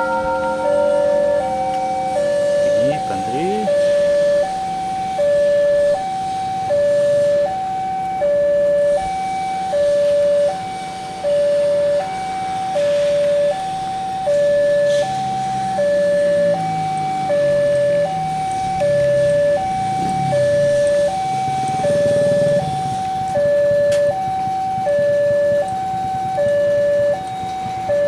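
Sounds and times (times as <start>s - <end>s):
two-tone crossing alarm: 0.0s - 28.0s.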